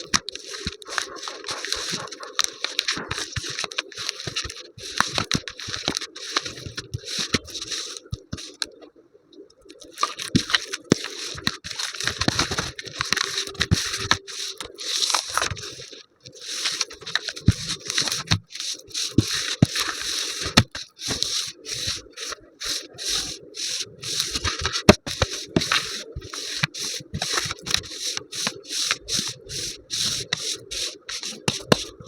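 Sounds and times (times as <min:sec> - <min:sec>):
dry crunching and crackling: 0:00.0 - 0:08.8, 0:09.6 - 0:32.0.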